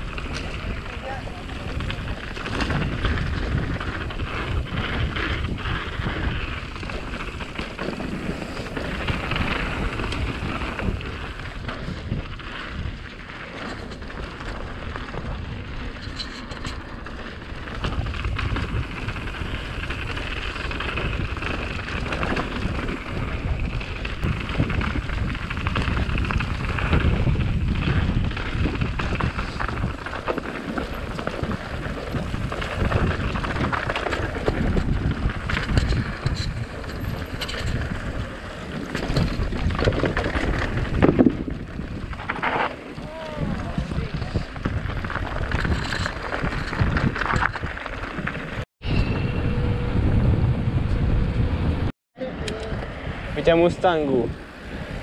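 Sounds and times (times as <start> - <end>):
tyres crunching over dirt and stones: 0.0 - 48.6
bike rattling over bumps: 0.0 - 55.0
wind rumble on microphone: 0.0 - 55.0.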